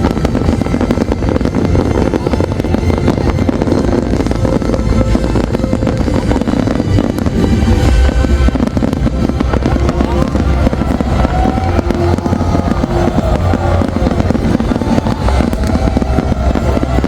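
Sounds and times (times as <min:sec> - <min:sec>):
fireworks bursts and bangs: 0:00.0 - 0:17.0
heavy low rumble: 0:00.0 - 0:17.0.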